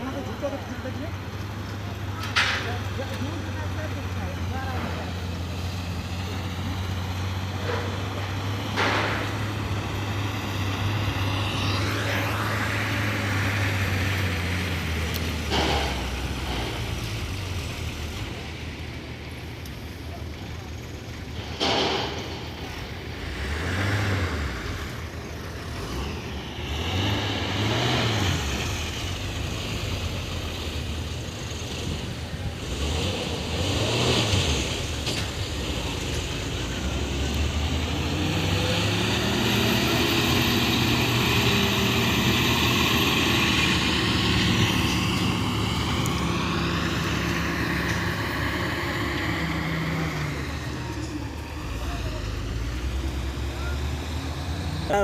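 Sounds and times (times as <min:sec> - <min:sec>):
diesel engine running: 0:00.0 - 0:55.0
vehicles passing: 0:00.0 - 0:55.0.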